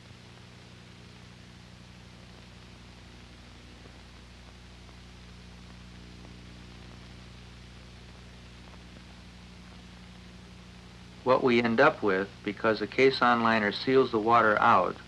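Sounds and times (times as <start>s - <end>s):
film soundtrack hiss: 0.0s - 15.0s
low electrical hum: 0.0s - 15.0s.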